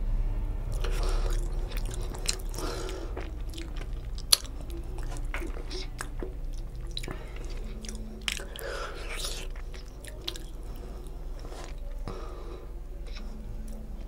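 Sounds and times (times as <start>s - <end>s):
wet chewing mouth sounds: 0.7s - 12.3s.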